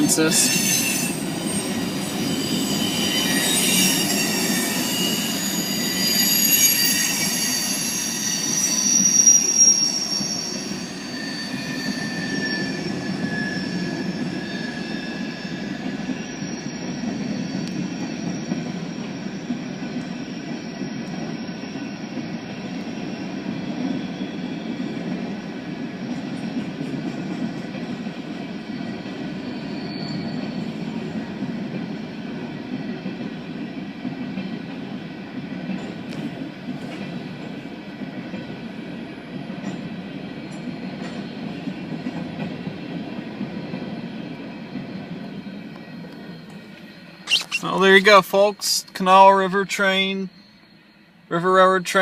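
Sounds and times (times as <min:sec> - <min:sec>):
freight train rumbling past: 0:00.0 - 0:52.0
train wheel squeals: 0:00.0 - 0:52.0.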